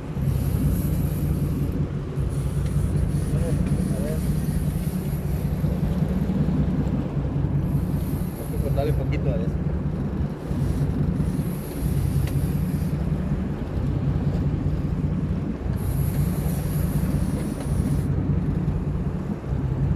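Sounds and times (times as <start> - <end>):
boat engine rumbling: 0.0 - 19.9
wind on microphone: 0.0 - 19.9.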